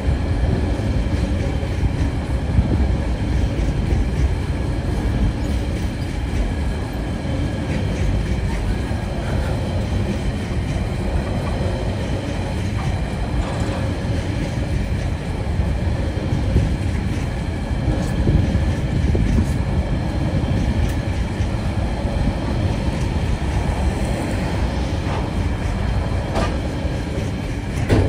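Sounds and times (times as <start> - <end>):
steel wheels rolling on rail: 0.0 - 28.0.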